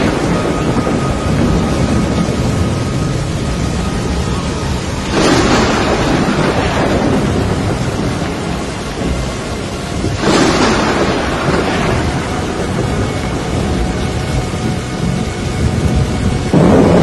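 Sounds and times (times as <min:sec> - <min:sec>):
steady rain: 0:00.0 - 0:17.0
thunder claps: 0:00.0 - 0:17.0.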